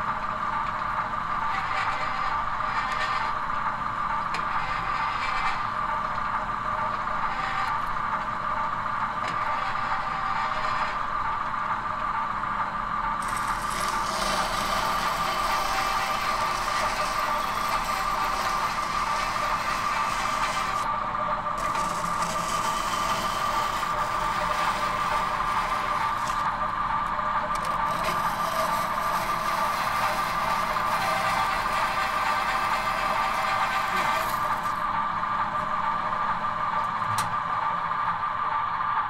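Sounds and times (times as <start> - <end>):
steady mechanical whine: 0.0 - 39.0.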